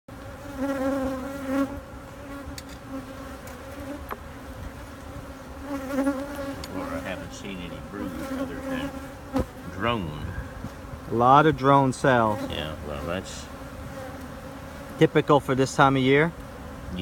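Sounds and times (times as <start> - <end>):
honeybees buzzing: 0.1 - 17.0.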